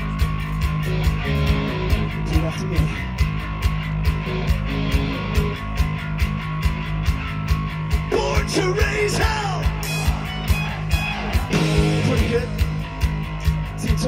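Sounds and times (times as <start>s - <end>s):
bass and electric guitar: 0.0s - 14.0s
drum beat: 0.0s - 14.0s.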